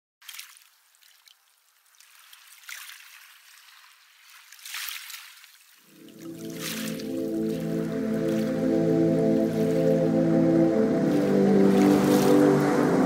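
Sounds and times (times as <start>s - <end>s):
small waves washing onto shore: 0.2s - 13.0s.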